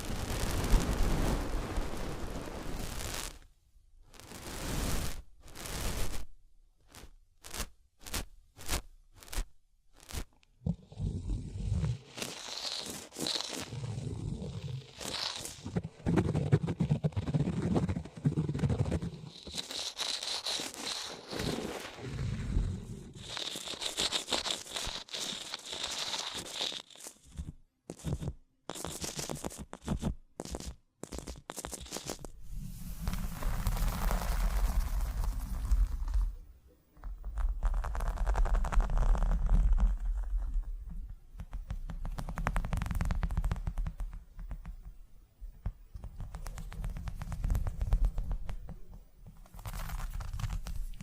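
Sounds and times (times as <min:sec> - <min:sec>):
scratchy strokes: 0:04.1 - 0:06.3, 0:06.9 - 0:36.4, 0:37.0 - 0:44.6, 0:46.0 - 0:51.0.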